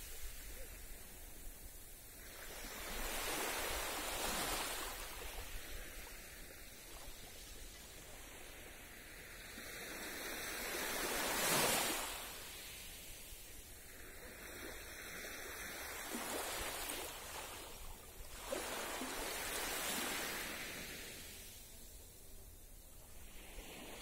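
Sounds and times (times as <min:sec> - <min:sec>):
small waves washing on sand: 0:00.0 - 0:24.0.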